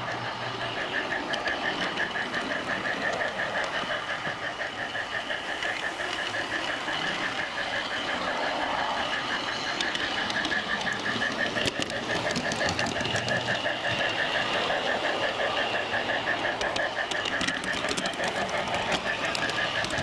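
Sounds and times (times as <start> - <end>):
model train drive whining: 0.0 - 20.0
sharp clicks from wheels: 0.0 - 20.0.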